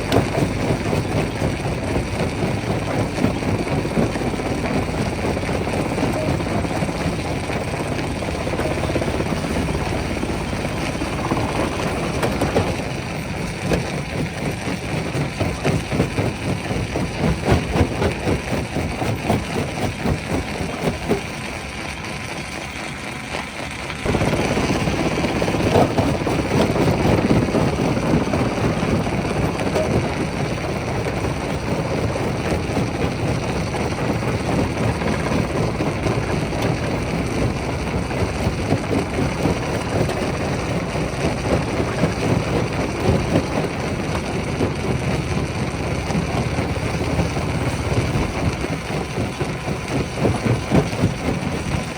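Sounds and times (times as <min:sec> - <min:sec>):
rock crusher engine drone: 0:00.0 - 0:51.9.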